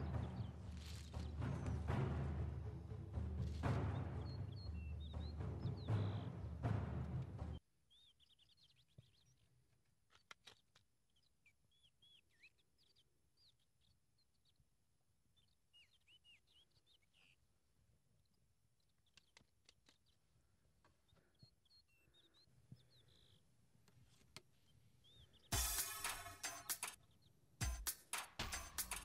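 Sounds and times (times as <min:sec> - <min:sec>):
faint birds chirping: 0:00.0 - 0:27.7.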